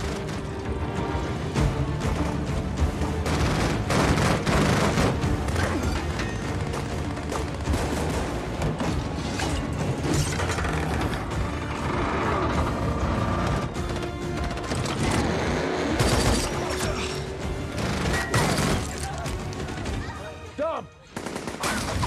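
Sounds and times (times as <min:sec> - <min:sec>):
action film music: 0:00.0 - 0:22.0.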